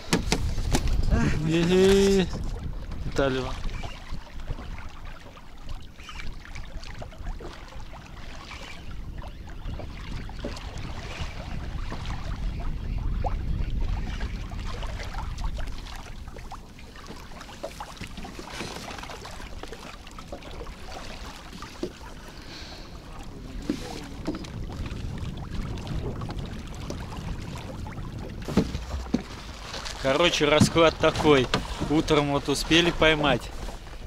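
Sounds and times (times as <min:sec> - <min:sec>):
water lapping against boat: 0:00.0 - 0:34.0
wind buffeting microphone: 0:00.0 - 0:34.0.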